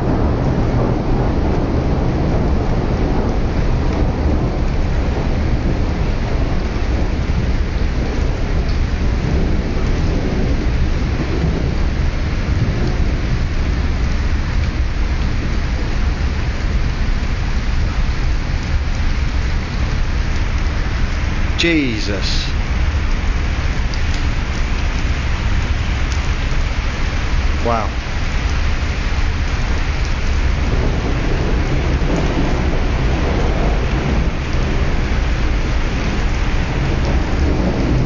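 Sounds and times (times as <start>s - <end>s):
low thunder rumble: 0.0s - 38.0s
rain hissing: 0.0s - 38.0s.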